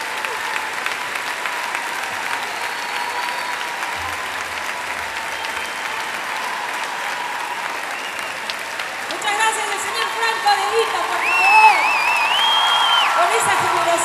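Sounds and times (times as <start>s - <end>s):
concert audience applauding: 0.0s - 14.0s.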